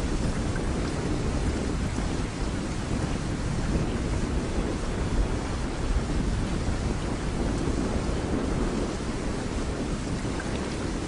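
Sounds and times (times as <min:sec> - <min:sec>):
floodwater rushing: 0:00.0 - 0:11.0
wind buffeting microphone: 0:00.0 - 0:11.0.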